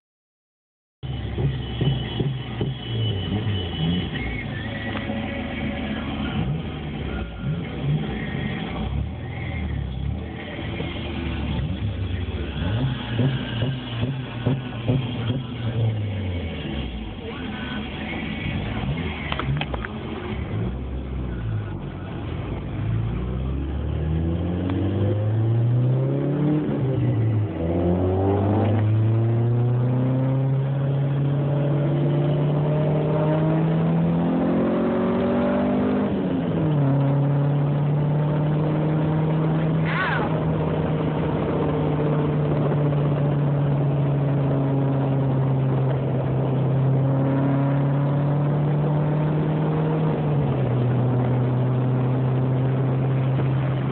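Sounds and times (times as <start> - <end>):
car engine revving: 1.0 - 53.9.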